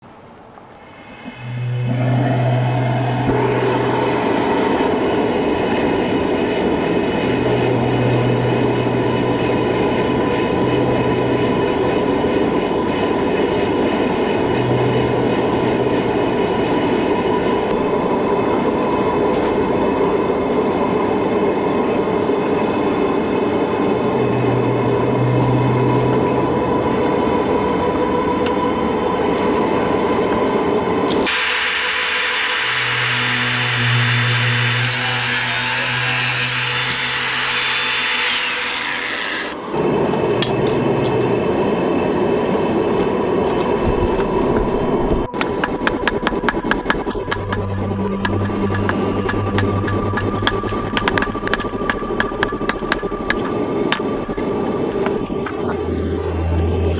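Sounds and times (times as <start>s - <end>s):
high whine: 0.0s - 36.0s, 36.6s - 56.9s
low hum: 0.0s - 56.9s
forge rushing noise: 0.1s - 56.9s.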